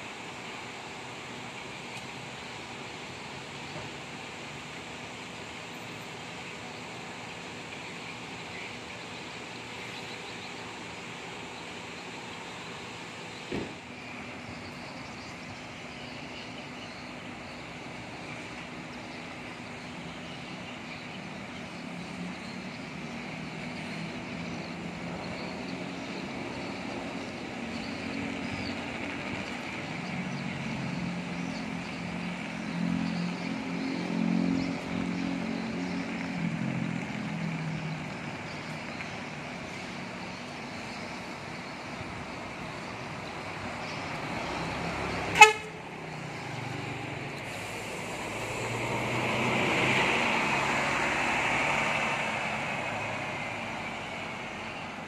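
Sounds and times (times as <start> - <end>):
diesel coach engine: 0.0 - 55.0.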